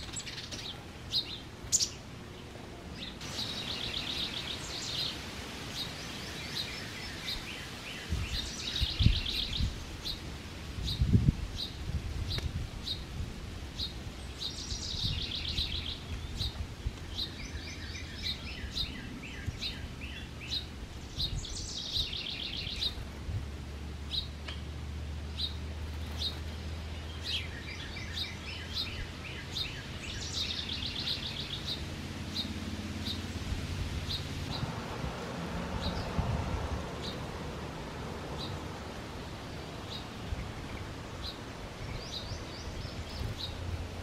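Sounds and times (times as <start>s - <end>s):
songbirds chirping and singing: 0.0s - 13.1s, 13.8s - 23.1s, 25.2s - 44.0s.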